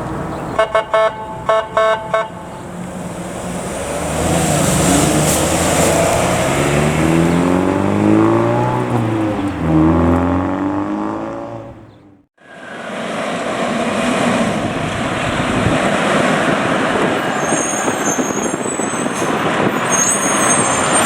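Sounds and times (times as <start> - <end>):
diesel truck engine pulling away: 1.3 - 21.0.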